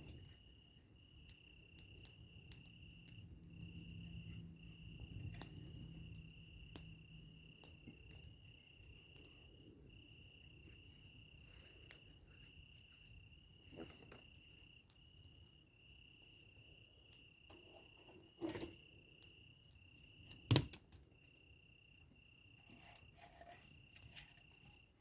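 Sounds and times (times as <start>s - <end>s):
cricket trilling: 0.0s - 25.0s.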